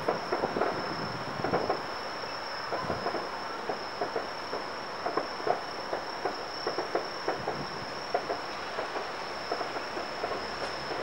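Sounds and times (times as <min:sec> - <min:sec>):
distant fireworks crackling: 0:00.0 - 0:11.0
insects chirring: 0:00.0 - 0:11.0.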